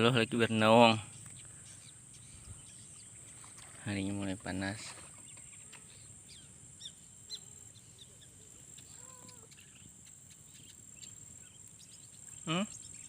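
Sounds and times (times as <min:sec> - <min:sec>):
bird chirps: 0:00.0 - 0:13.0
high insect drone: 0:00.0 - 0:13.0.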